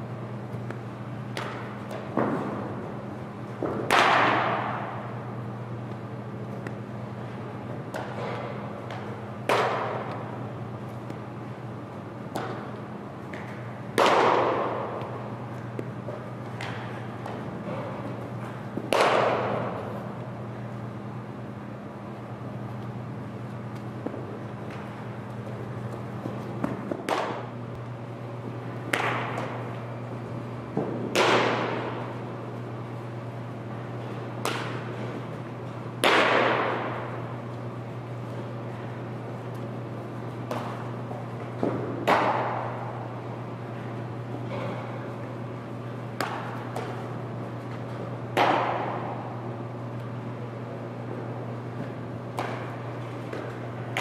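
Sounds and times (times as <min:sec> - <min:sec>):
steady low hum: 0:00.0 - 0:54.0
baseball impacts echoing: 0:00.4 - 0:54.0.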